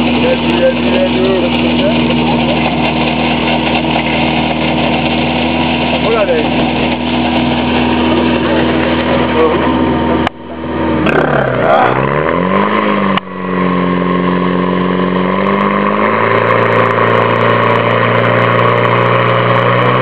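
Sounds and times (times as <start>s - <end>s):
fire pump engine running: 0.0s - 20.0s.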